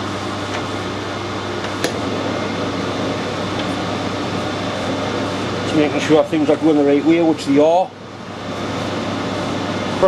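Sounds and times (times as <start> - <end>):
lathe whirring hum: 0.0 - 10.0.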